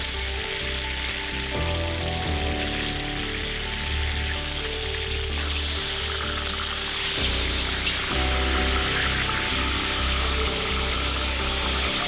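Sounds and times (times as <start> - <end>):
meat sizzling in oil: 0.0 - 12.0
slow background music: 0.0 - 12.0.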